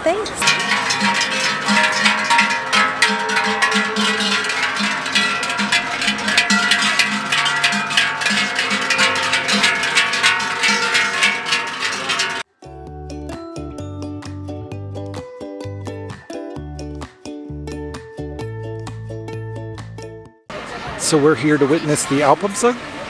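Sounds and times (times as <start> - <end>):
plucked strings tune with bass beat: 0.4 - 20.3.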